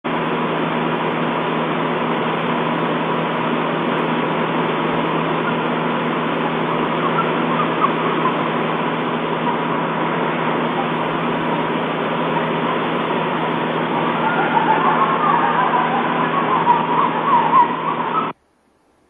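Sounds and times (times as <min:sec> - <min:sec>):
constant high whine: 0:00.0 - 0:19.0
low electrical hum: 0:00.1 - 0:19.0.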